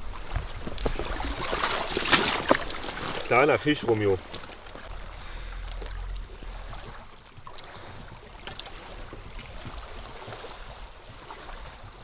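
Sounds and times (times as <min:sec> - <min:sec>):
water lapping softly: 0:00.0 - 0:12.0
small drips and splashes: 0:00.2 - 0:12.0.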